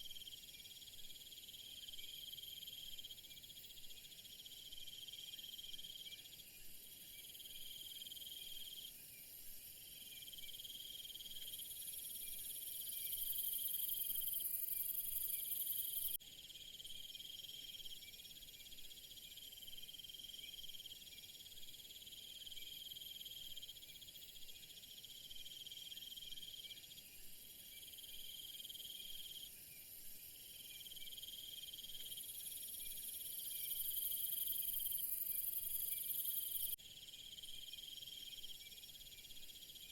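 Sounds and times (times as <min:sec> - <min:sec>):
high-pitched insect trills: 0:00.0 - 0:39.9
lower insect trill: 0:00.0 - 0:39.9.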